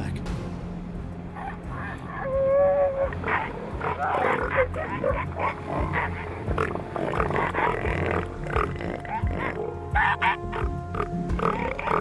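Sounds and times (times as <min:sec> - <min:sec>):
seal guttural grunting calls: 0:01.4 - 0:12.0
seal high-pitched cry: 0:01.4 - 0:12.0.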